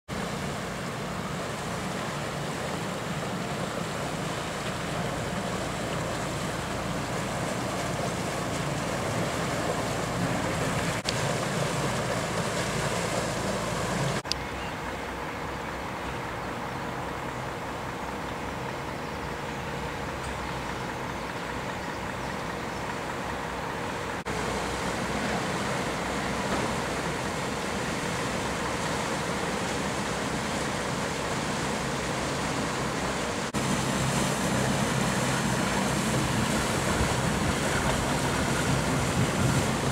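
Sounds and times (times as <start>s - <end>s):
boat engine rumble: 0.1s - 39.9s.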